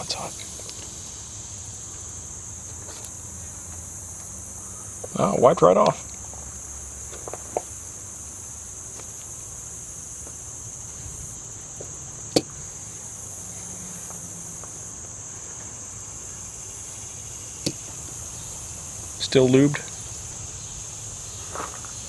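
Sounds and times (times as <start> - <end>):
shrill insect chorus: 0.0 - 22.0.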